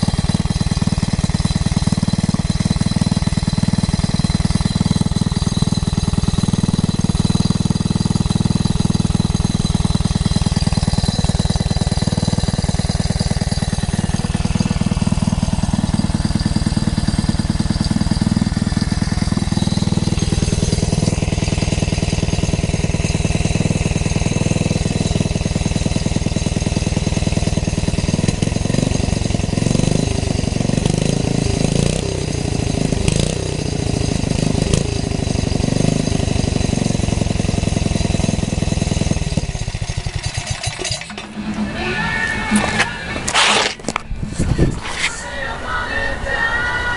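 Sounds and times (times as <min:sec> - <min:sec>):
single-cylinder engine running: 0:00.0 - 0:46.9.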